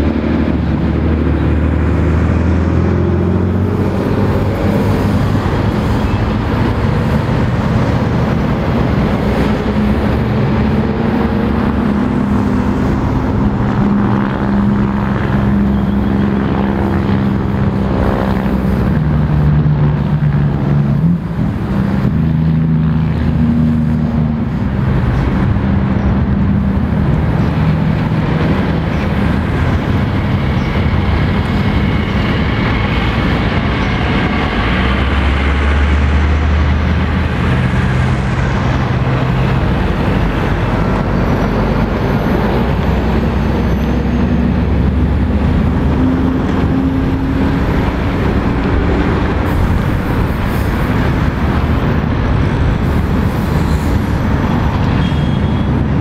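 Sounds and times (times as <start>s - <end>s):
deep diesel lorry drone: 0.0s - 56.0s
heavy road traffic passing: 0.0s - 56.0s.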